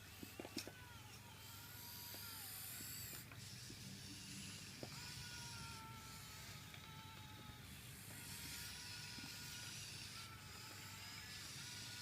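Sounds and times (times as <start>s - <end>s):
toy excavator motors whining: 0.0s - 12.0s.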